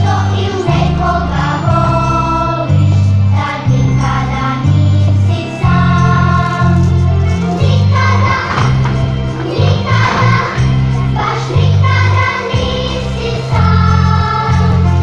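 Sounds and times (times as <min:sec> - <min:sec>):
choir-like singing: 0:00.0 - 0:15.0
steady bass line: 0:00.0 - 0:15.0.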